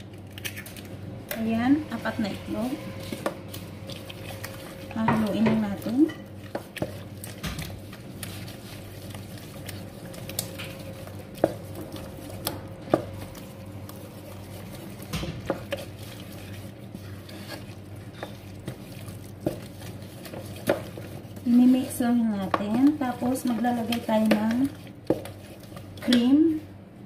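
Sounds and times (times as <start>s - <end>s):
eggs stirred in a bowl: 0.0s - 27.0s
steady low hum: 0.0s - 27.0s.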